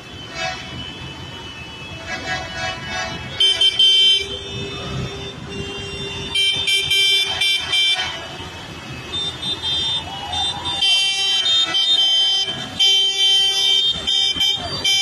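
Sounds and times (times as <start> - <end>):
tractor engines rumbling: 0.0 - 15.0
vehicle horn blasts: 0.2 - 10.0, 10.8 - 15.0.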